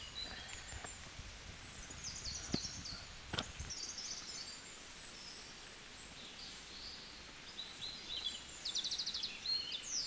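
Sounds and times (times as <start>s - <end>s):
birds chirping and whistling: 0.0s - 10.0s
faint outdoor background noise: 0.0s - 10.0s.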